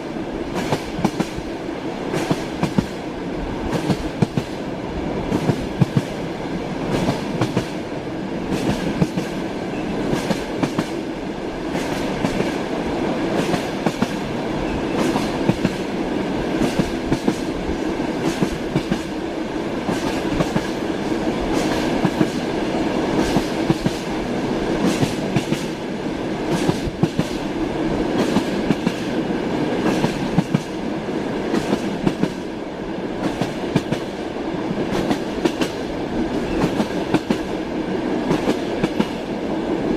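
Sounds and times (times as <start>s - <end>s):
train wheels clacking on rails: 0.0s - 4.6s, 5.2s - 6.2s, 6.8s - 39.5s
railway carriage rumble: 0.0s - 39.9s.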